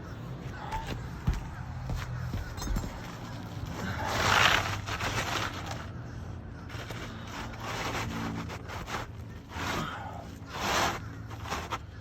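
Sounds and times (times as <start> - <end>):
roof shingle scraping: 0.6 - 6.0, 6.6 - 12.0.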